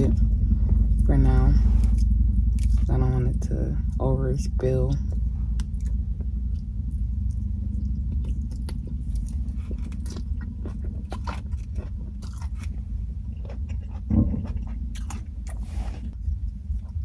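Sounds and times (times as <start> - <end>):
chewing and crunching food: 0.0 - 4.1, 4.9 - 17.0
steady low hum: 0.0 - 17.0.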